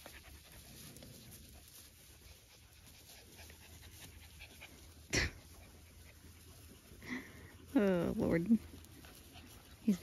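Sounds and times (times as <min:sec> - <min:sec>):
dog panting: 0:00.0 - 0:07.7, 0:08.6 - 0:10.0.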